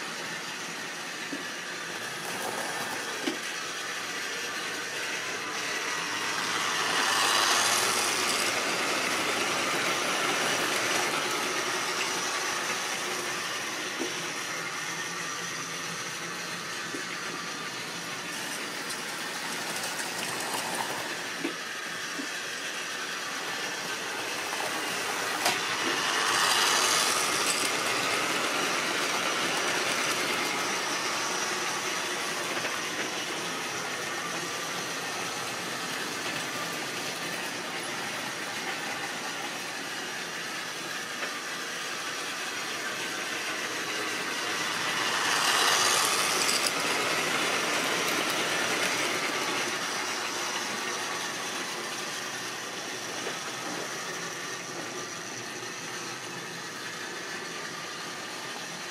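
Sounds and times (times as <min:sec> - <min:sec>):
model train motor whirr: 0:00.0 - 0:58.9.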